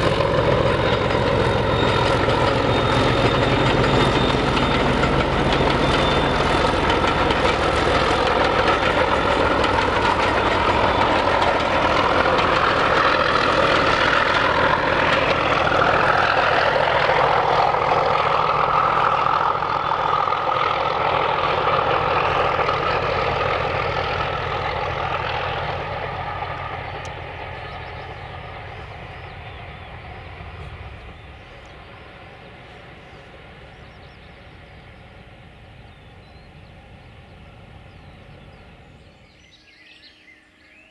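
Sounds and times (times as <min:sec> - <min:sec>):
diesel locomotive passing: 0:00.0 - 0:40.9.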